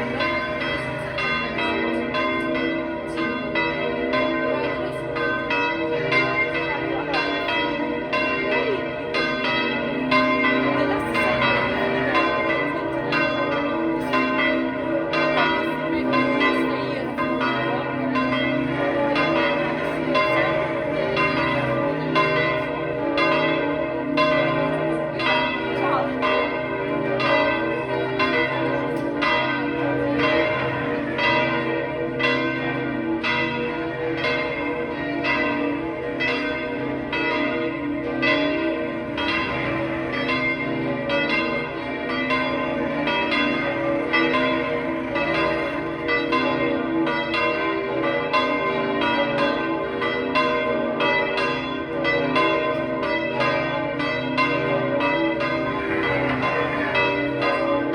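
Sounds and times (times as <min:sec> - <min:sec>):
large bronze bell ringing: 0:00.0 - 0:57.9.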